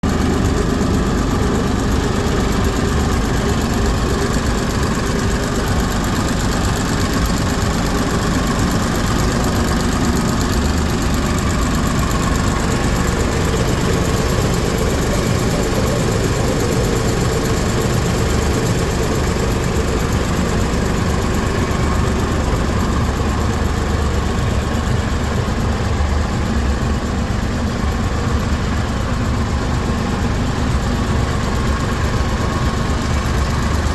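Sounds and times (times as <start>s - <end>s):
diesel engine running generator: 0.0s - 33.9s.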